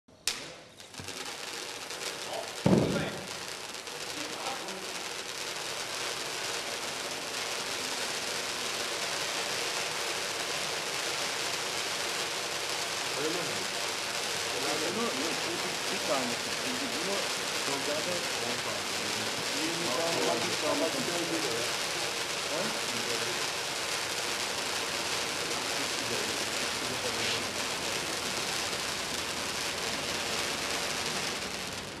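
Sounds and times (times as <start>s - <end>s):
firework hissing: 0.1s - 32.0s.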